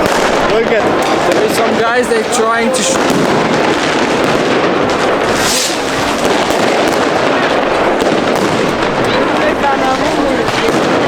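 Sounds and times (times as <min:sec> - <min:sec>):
firecrackers cracking and banging: 0:00.0 - 0:11.0
firework hiss: 0:00.0 - 0:11.0.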